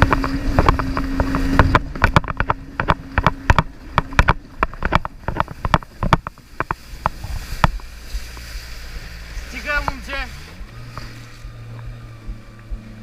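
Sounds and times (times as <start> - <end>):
jet ski engine humming: 0.0 - 13.0.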